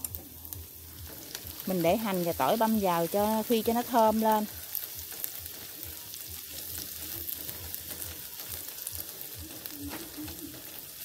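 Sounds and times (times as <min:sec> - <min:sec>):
onion and garlic sizzling in oil: 0:00.0 - 0:11.0.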